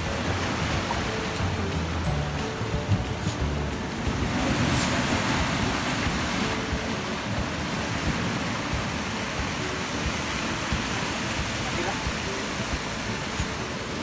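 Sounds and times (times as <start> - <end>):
surf breaking over rocks: 0.0 - 14.0.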